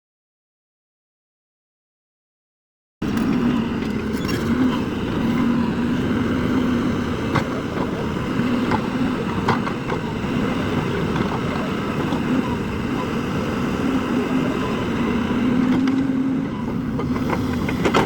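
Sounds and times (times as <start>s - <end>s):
excavator diesel engine running: 3.0s - 18.0s.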